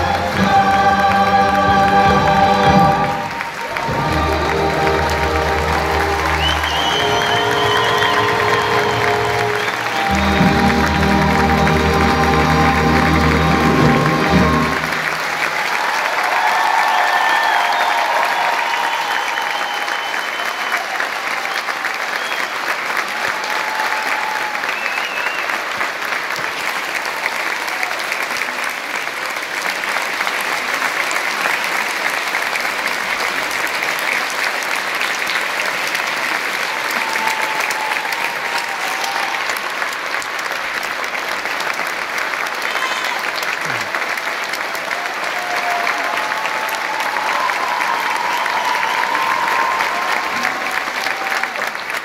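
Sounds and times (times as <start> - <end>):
audience applauding: 0.0 - 52.0.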